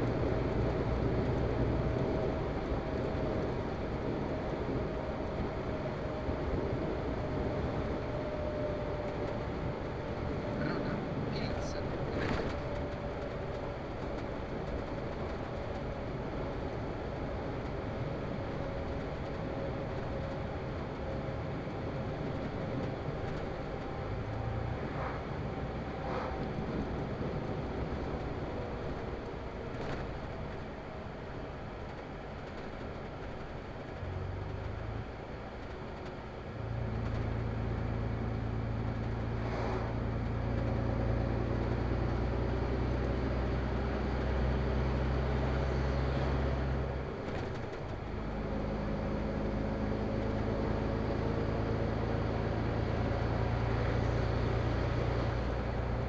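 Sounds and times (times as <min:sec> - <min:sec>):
low engine hum: 0:00.0 - 0:56.0
vehicle engine and road noise: 0:00.0 - 0:56.0.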